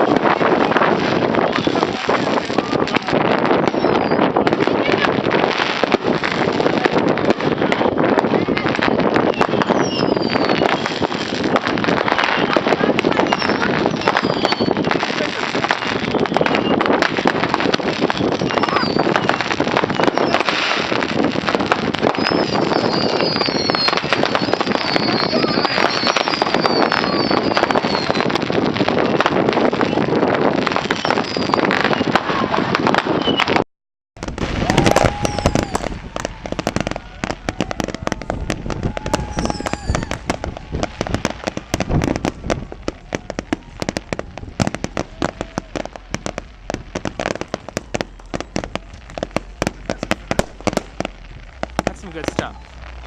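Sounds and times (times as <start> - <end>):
firecrackers popping and banging: 0.0 - 33.6, 34.2 - 53.0
whistling fireworks: 0.0 - 33.6, 34.2 - 53.0.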